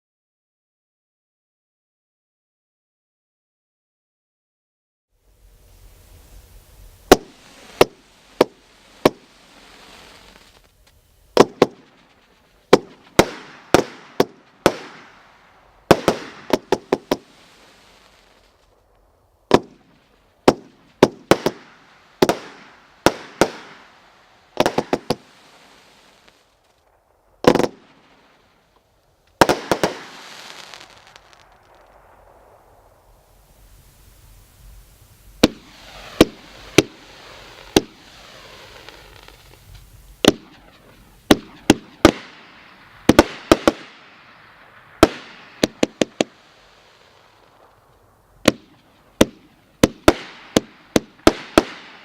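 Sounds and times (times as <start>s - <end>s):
hissing crackling fireworks tail: 5.2s - 52.0s
fireworks bangs: 5.4s - 52.0s.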